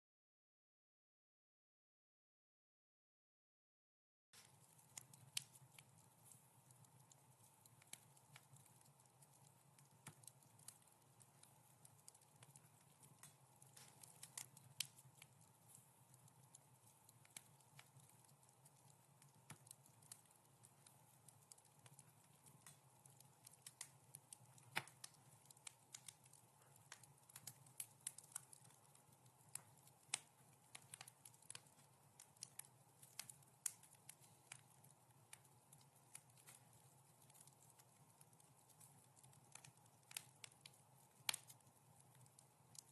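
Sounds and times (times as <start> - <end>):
wood fire crackling: 4.4 - 42.9.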